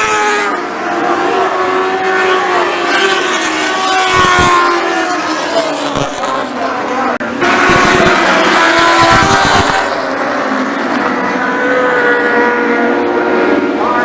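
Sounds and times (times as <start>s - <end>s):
racing car engines at high revs: 0.0s - 14.0s.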